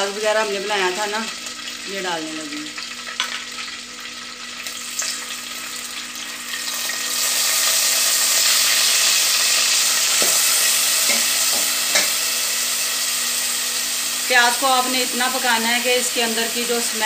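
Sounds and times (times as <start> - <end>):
food sizzling in hot fat: 0.0 - 17.0.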